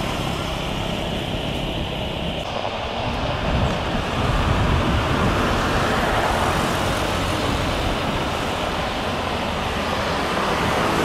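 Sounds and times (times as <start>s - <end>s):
distant engines roaring: 0.0s - 11.0s.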